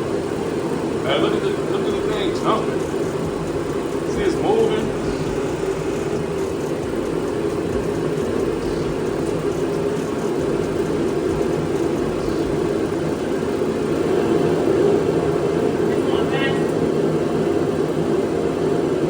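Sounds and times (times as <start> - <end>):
gas heater fan and burner: 0.0 - 19.0.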